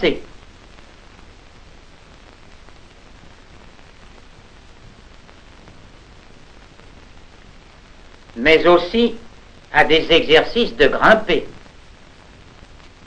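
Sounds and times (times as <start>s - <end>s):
old film soundtrack hiss: 0.0s - 13.0s.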